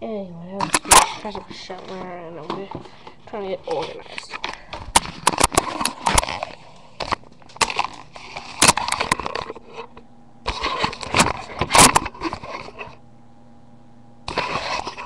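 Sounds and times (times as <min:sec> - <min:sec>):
phone handling scrapes and clicks: 0:00.6 - 0:13.0, 0:14.3 - 0:15.0.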